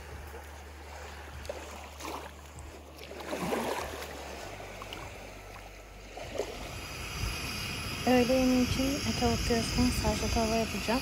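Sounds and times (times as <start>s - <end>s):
small waves lapping on sand: 0.0s - 11.0s.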